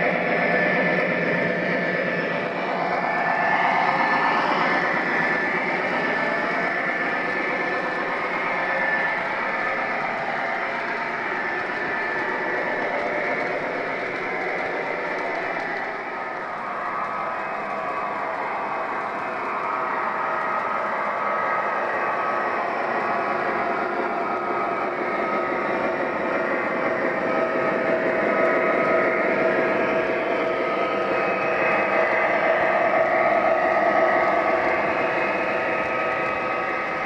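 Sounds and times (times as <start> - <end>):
model train wheels rumbling: 2.3 - 37.0.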